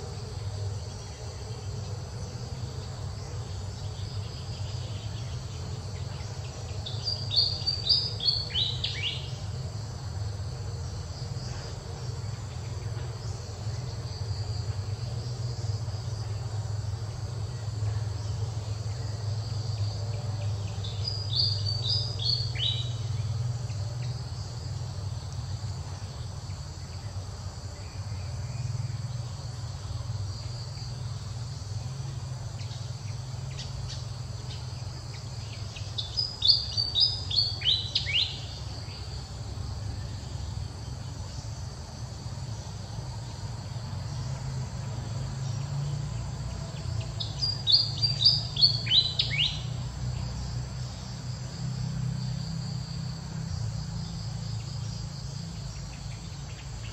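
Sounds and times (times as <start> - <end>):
bird singing: 0.0 - 56.9
insects droning: 0.0 - 56.9.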